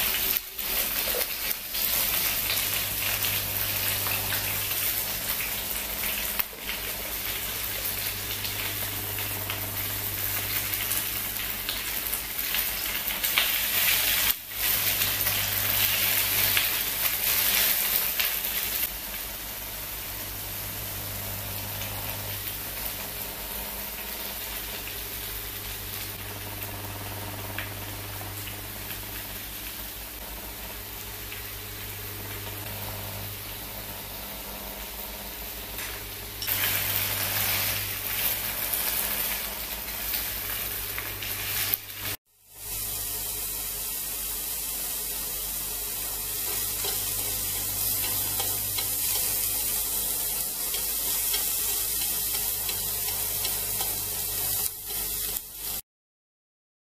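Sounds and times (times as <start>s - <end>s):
vegetables sizzling in a frying pan: 0.0s - 55.8s.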